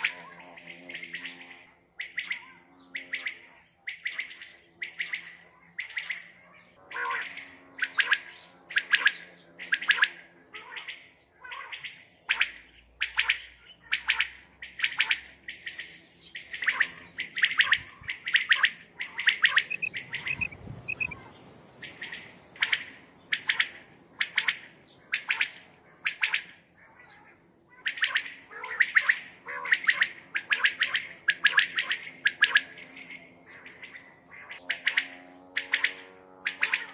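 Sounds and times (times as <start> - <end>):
quail calling: 0.0 - 36.9.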